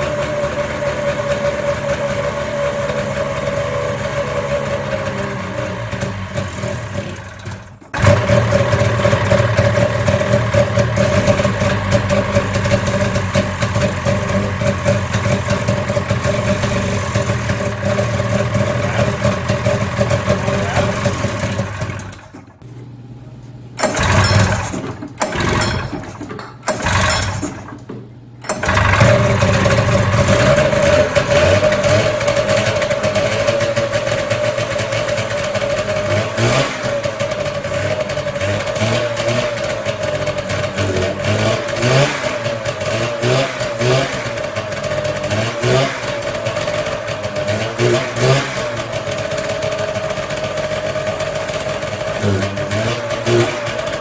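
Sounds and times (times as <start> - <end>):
snowmobile engine stumbling and running: 0.0 - 22.8, 23.8 - 54.0.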